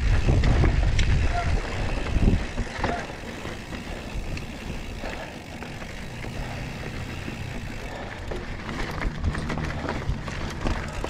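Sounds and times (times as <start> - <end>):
bike rattling over bumps: 0.0 - 11.0
bike tyres rolling on dirt: 0.0 - 11.0.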